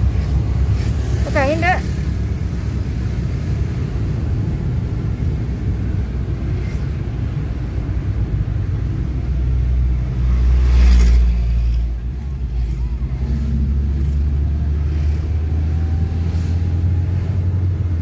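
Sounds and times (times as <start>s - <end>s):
car driving rumble inside cabin: 0.0s - 18.0s
truck passing: 0.0s - 18.0s.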